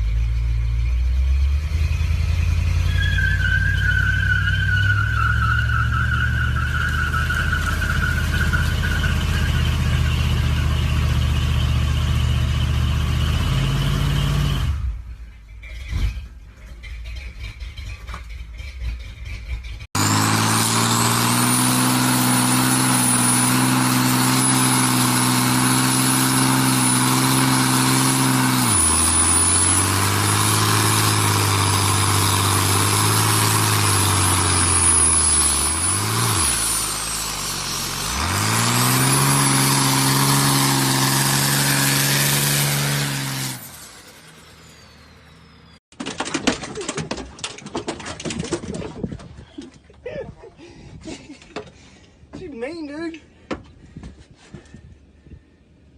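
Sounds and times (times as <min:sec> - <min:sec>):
truck engine running: 0:00.0 - 0:45.8.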